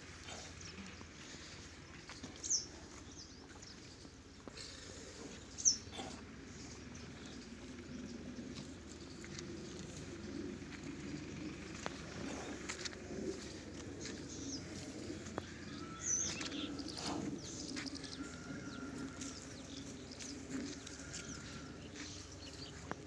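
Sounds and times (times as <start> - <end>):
faint low background hum: 0.0 - 23.0.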